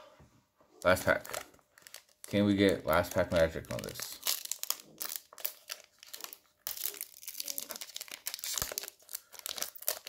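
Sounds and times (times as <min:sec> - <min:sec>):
foil wrapper crinkling and tearing: 0:00.8 - 0:10.0.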